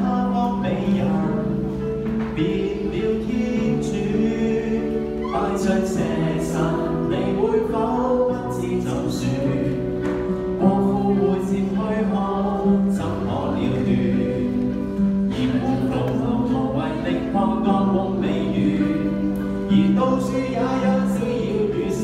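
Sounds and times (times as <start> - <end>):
man singing a hymn: 0.0 - 22.0.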